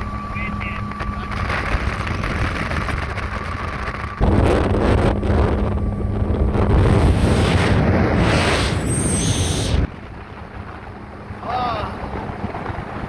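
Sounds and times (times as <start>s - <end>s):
motorboat engine: 0.0s - 13.0s
wind buffeting microphone: 0.0s - 13.0s.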